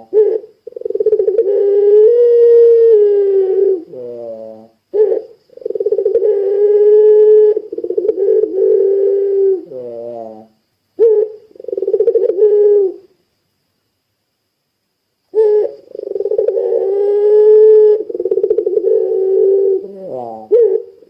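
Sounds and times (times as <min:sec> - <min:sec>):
dove cooing: 0:00.0 - 0:13.1, 0:15.3 - 0:21.0.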